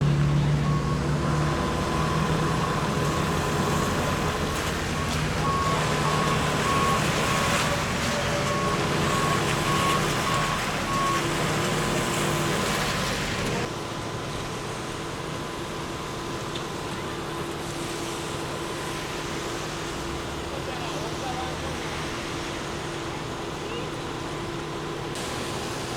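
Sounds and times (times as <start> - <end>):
large vehicle engine running: 0.0 - 25.9.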